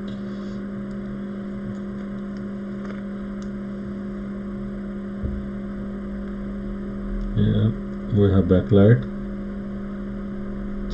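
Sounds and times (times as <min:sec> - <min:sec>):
electrical hum with fan whir: 0:00.0 - 0:10.9.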